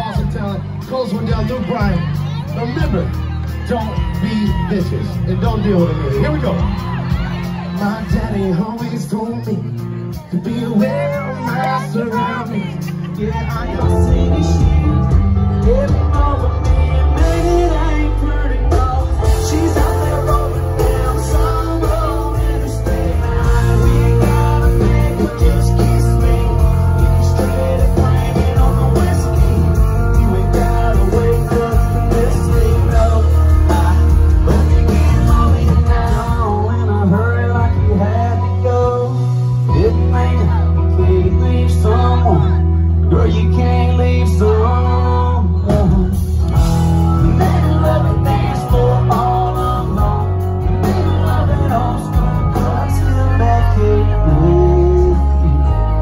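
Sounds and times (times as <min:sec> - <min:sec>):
man singing: 0:00.0 - 0:06.8, 0:07.4 - 0:56.0
country rock band playing: 0:00.0 - 0:56.0
drums: 0:00.0 - 0:56.0
electric guitars: 0:00.0 - 0:56.0.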